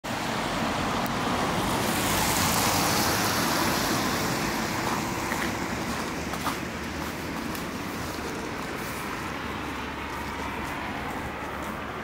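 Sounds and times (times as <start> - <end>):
road traffic rush: 0.0 - 12.0
vehicle passing: 0.3 - 12.0.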